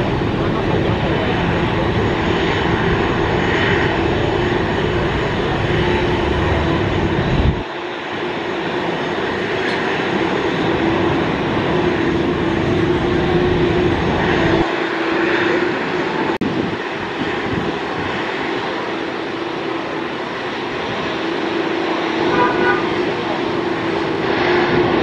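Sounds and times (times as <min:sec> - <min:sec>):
jet engine rumble: 0:00.0 - 0:25.0
jet engine whine: 0:00.0 - 0:25.0.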